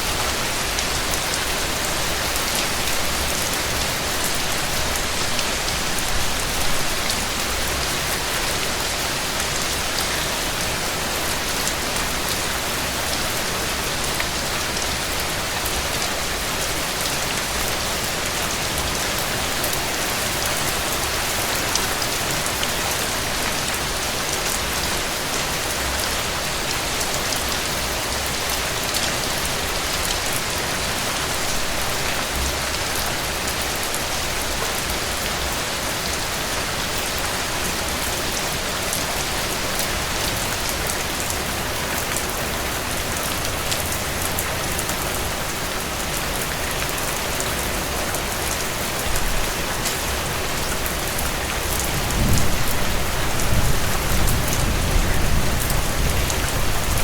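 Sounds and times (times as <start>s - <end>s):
heavy rain on roof: 0.0s - 57.0s.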